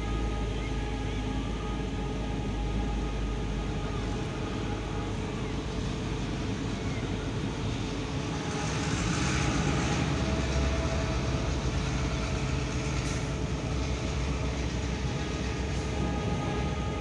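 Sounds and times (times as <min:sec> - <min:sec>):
locomotive engine rumbling: 0:00.0 - 0:17.0.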